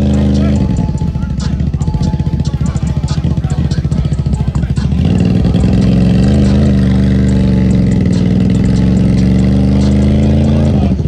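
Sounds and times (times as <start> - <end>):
atv engine at high revs: 0.0 - 11.0.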